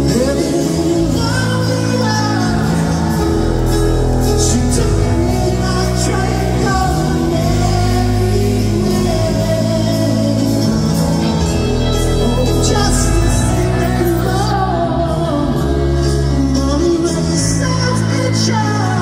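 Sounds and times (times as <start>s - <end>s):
live rock band playing: 0.0s - 19.0s
person singing: 0.0s - 19.0s.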